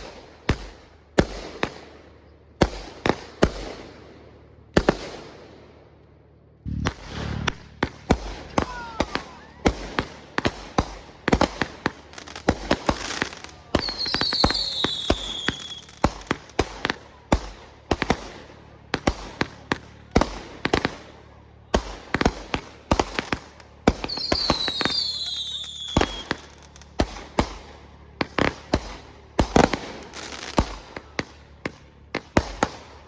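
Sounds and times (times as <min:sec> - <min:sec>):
whistling fireworks: 0:00.0 - 0:05.6, 0:06.9 - 0:33.0
fireworks banging: 0:02.6 - 0:05.6, 0:06.6 - 0:33.0.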